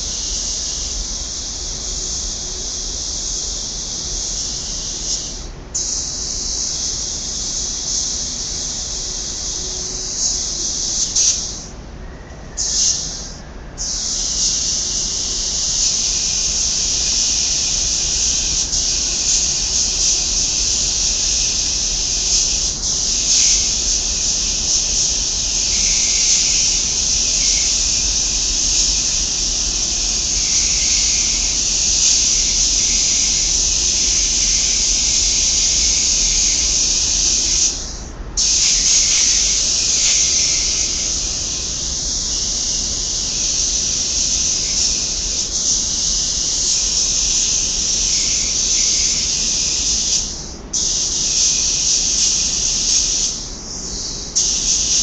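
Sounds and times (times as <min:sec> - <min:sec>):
paint spray gun hissing: 0:00.0 - 0:09.6, 0:10.2 - 0:11.7, 0:13.9 - 0:55.0.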